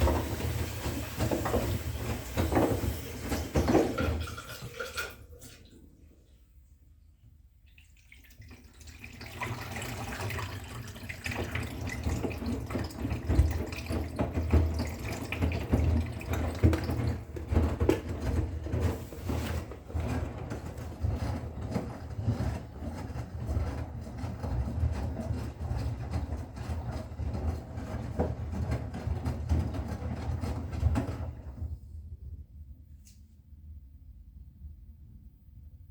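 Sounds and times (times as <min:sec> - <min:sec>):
water flowing into washing machine: 0:00.0 - 0:06.1, 0:07.6 - 0:31.8
washing machine low hum: 0:00.0 - 0:35.9.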